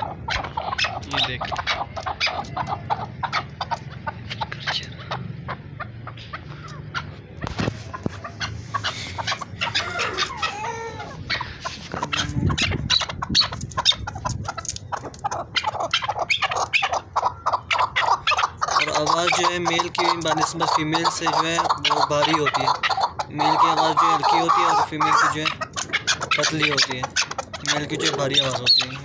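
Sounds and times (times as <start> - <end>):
partridge clucking calls: 0.0 - 29.0.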